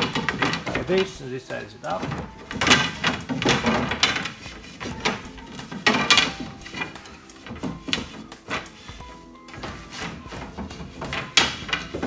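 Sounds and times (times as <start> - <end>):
drawer knocking and scraping: 0.0 - 12.0.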